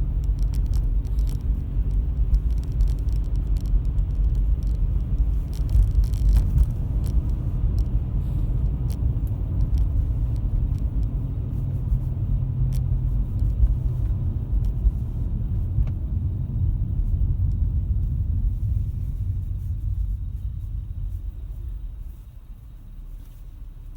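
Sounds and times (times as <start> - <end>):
low droning wheel bearing: 0.0 - 23.9
road rumble: 0.0 - 23.9.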